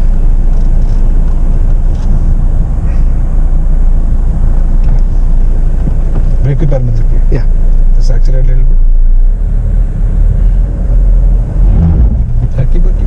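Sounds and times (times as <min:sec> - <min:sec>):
vehicle rumbling over rough trail: 0:00.0 - 0:13.0.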